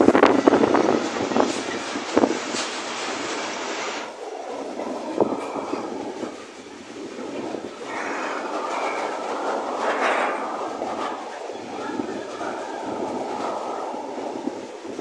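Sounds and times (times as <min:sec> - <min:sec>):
freight train wheels on rails: 0:00.0 - 0:15.0.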